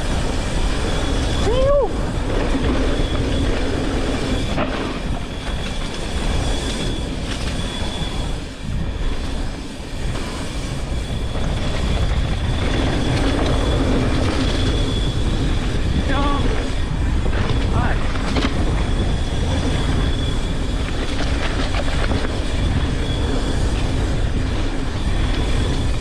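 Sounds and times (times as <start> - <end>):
bike rattling: 0.0 - 26.0
bike tyres rolling on dirt: 0.0 - 26.0
wind rushing on microphone: 0.0 - 26.0.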